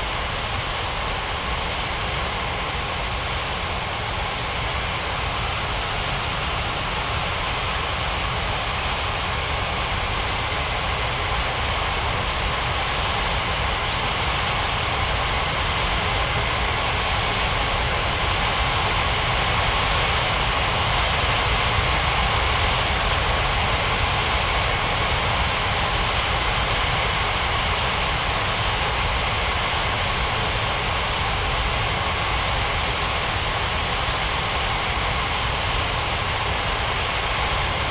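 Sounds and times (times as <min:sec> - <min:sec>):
jet engines droning: 0:02.0 - 0:37.9.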